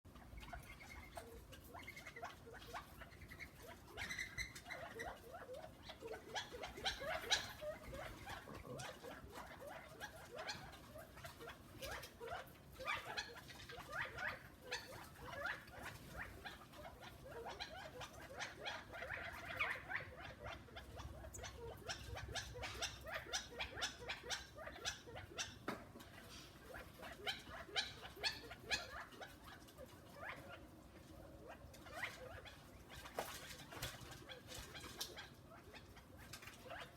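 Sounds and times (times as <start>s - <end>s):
cats chattering: 0.1s - 36.9s.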